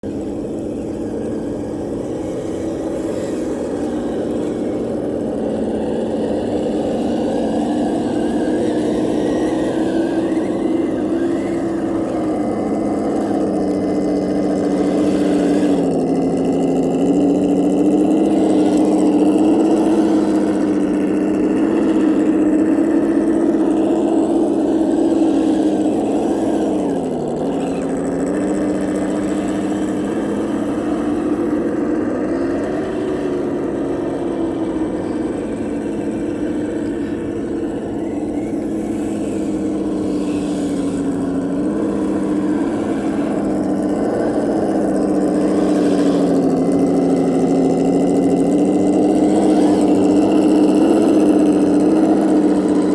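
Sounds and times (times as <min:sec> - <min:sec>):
electric motor whine: 0:00.0 - 0:52.9.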